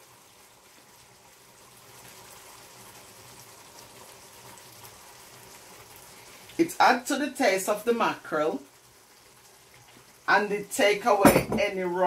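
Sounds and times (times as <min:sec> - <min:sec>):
frying pan sizzling: 0:00.0 - 0:12.0.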